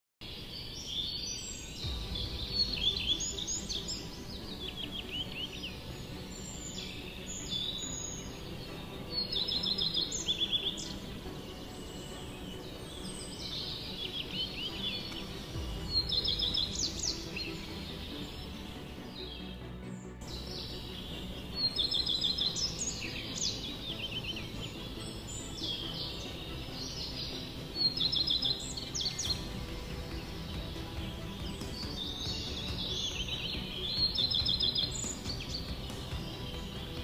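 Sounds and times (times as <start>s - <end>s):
songbirds singing: 0.2s - 37.0s.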